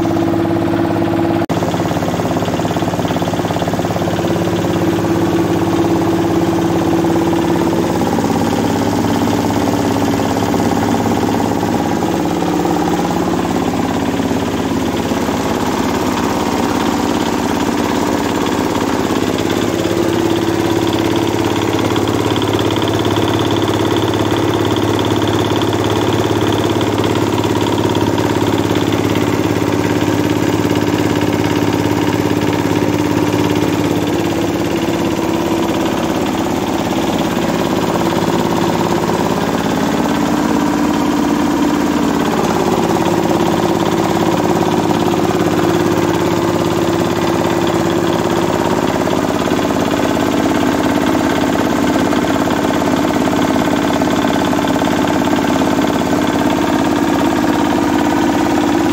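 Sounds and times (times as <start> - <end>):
diesel engine running under load: 0.0 - 58.9
rice mill grinding grain: 2.0 - 58.9.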